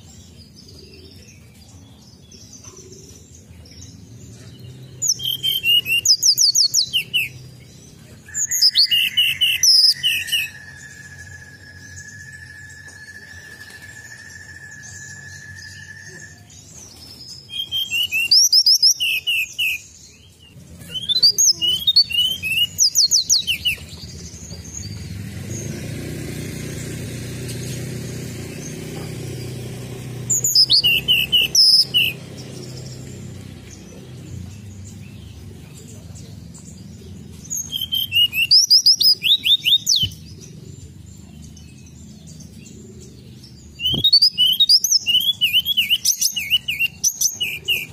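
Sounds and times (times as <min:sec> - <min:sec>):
bird chirping: 0:00.0 - 0:47.9.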